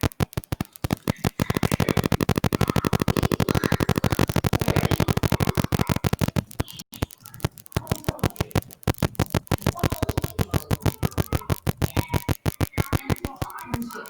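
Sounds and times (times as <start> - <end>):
music with sharp clicking beats: 0.0 - 14.0.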